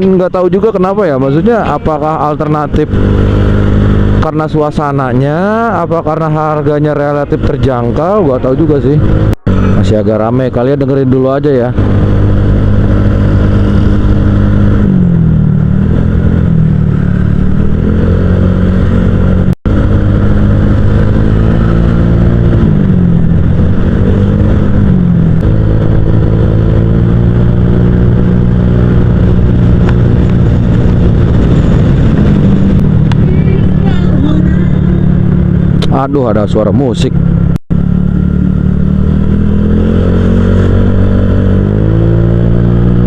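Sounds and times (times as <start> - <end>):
scooter engine revving: 0.8 - 10.0, 11.5 - 43.0.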